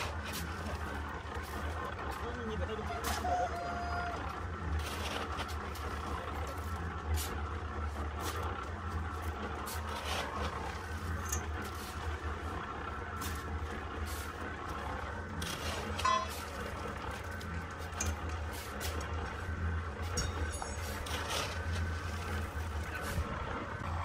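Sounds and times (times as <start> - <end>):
shovels scraping sand and gravel: 0.0 - 3.4, 4.8 - 7.5, 8.1 - 8.6, 9.2 - 23.7
concrete mixer drone: 0.0 - 24.0.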